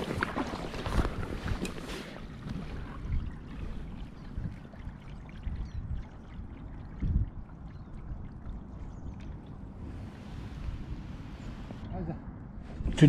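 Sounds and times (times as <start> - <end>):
water lapping along kayak hull: 0.0 - 11.8
paddle drips: 0.0 - 11.9.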